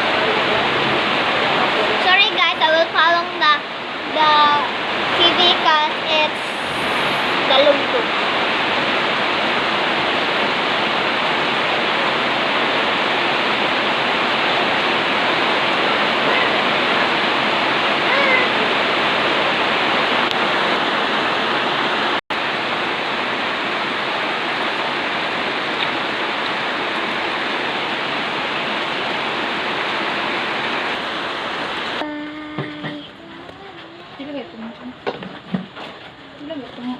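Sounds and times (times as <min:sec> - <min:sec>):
heavy rain hissing: 0:00.0 - 0:36.9.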